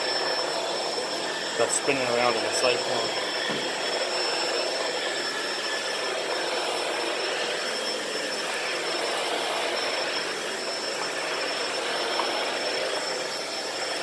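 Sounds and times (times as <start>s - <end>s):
upright vacuum running: 0.0s - 14.0s.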